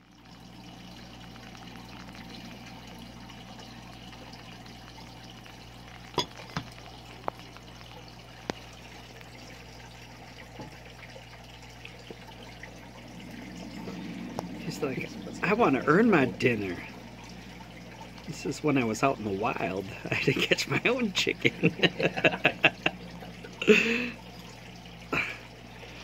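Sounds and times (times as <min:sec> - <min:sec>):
low hum: 0:00.0 - 0:26.0
running water: 0:00.0 - 0:26.0.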